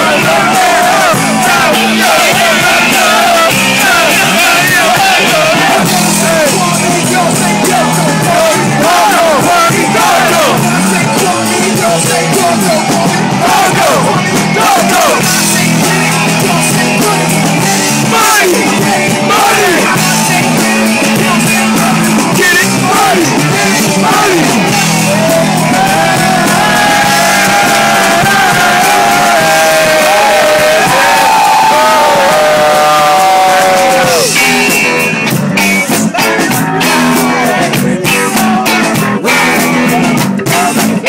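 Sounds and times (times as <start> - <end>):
person singing into microphone: 0.0 - 34.8, 35.8 - 41.0
live band with drums and guitar: 0.0 - 41.0.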